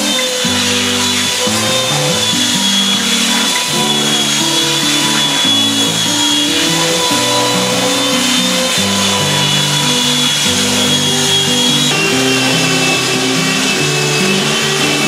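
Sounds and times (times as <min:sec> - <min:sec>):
electric sander whining: 0:00.0 - 0:15.0.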